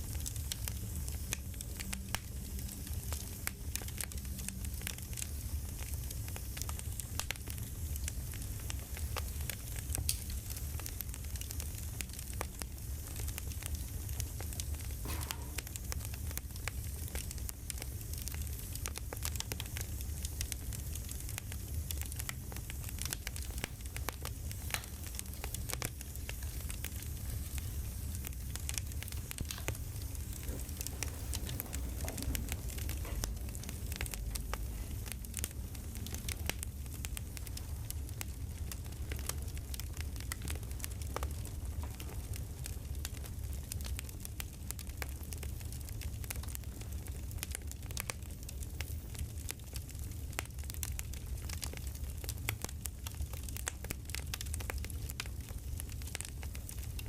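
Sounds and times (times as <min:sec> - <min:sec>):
campfire rumble: 0:00.0 - 0:57.0
fire pops and snaps: 0:00.0 - 0:57.0.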